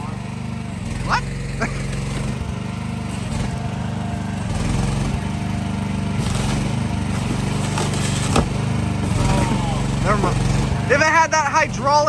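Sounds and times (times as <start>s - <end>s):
mini excavator engine running: 0.0s - 12.0s.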